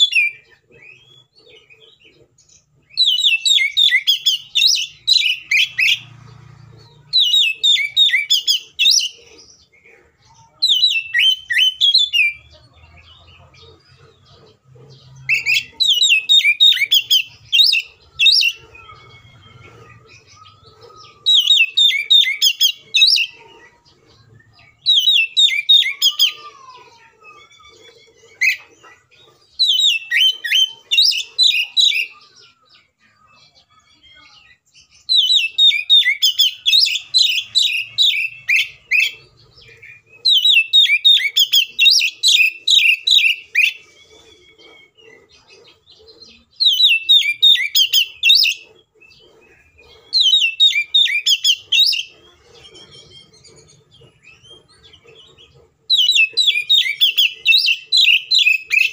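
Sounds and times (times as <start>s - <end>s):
bird singing chattering phrases: 0.0s - 58.9s.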